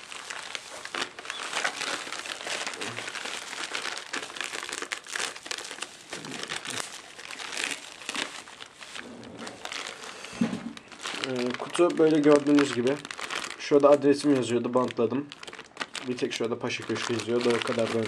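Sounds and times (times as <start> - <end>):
bubble wrap and plastic crinkling: 0.0 - 18.0.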